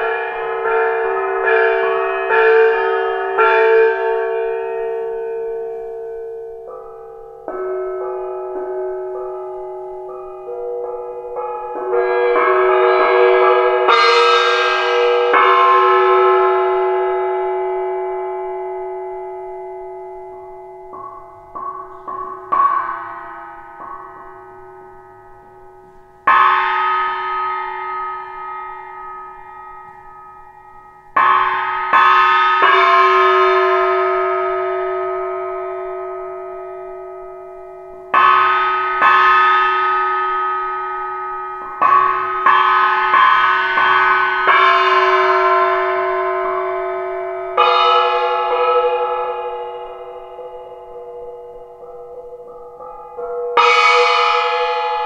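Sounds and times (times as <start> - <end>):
metal struck ringing like bells: 0.0 - 55.0.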